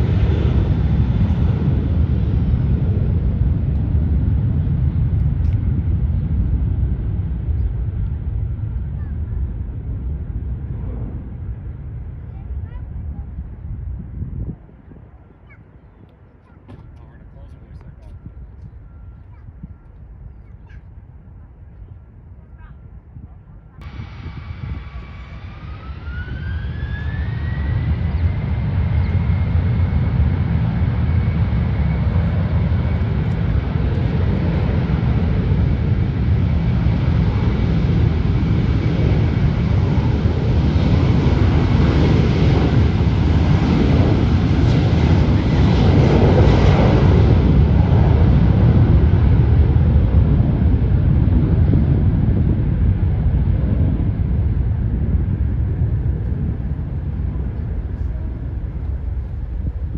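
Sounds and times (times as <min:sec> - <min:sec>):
jet engines whining: 0:00.0 - 0:13.5, 0:23.8 - 0:59.9
dense engine rush: 0:00.0 - 0:14.5, 0:23.7 - 0:59.9.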